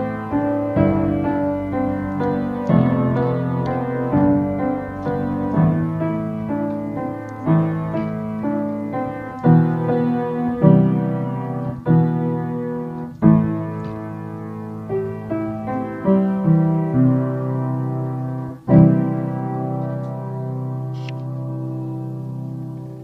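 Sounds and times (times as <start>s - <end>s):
slow solo piano piece: 0.0s - 23.0s.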